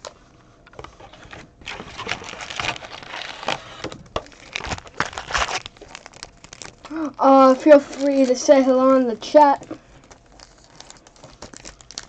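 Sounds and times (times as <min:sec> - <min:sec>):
foil packs rustling and scraping: 0:00.9 - 0:12.0.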